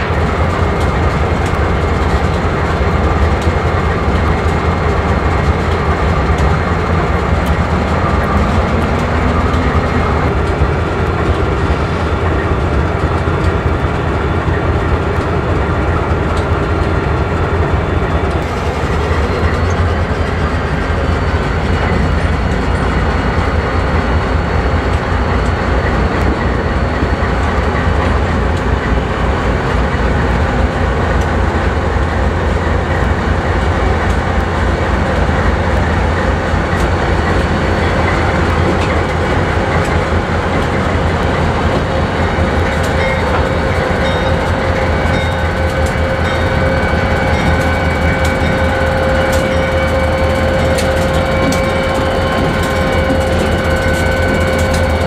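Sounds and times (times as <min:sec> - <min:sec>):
diesel locomotive engine rumble: 0:00.0 - 0:55.0
train wheels clicking over rail joints: 0:00.0 - 0:55.0.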